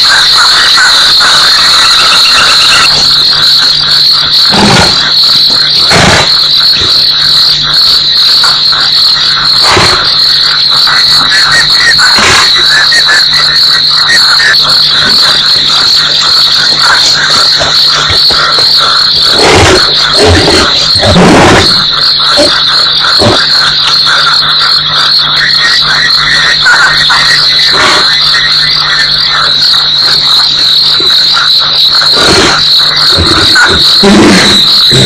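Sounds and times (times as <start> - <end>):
night insect chorus trilling: 0.0 - 35.0.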